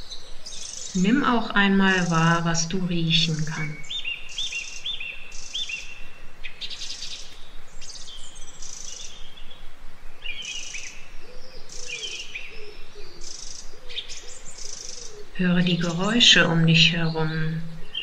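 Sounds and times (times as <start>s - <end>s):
birds chirping and trilling: 0.0s - 18.0s
lower bird call: 2.0s - 18.0s.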